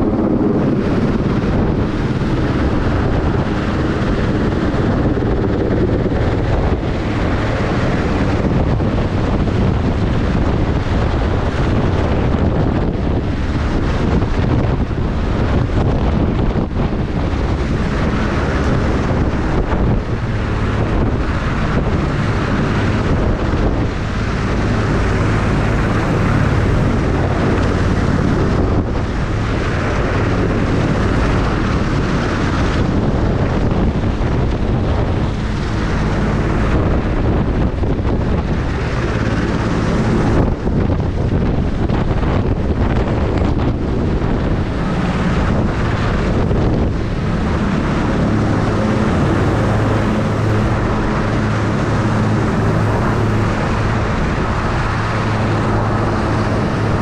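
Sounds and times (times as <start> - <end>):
helicopter rotor and engine hum: 0.0 - 57.0
wind buffeting microphone: 0.0 - 57.0.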